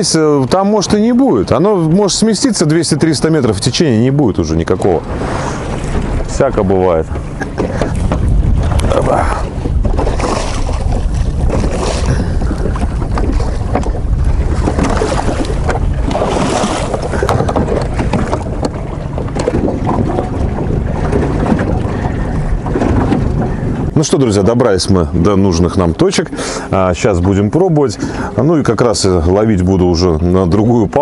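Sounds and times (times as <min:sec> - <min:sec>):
motorboat engine rumble: 0:00.0 - 0:31.0
water rushing past hull: 0:00.0 - 0:31.0
wind buffeting microphone: 0:00.0 - 0:31.0.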